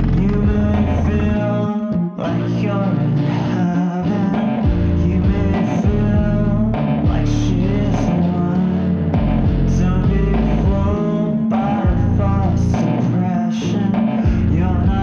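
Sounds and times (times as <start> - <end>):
rock song with guitar and bass: 0.0 - 15.0.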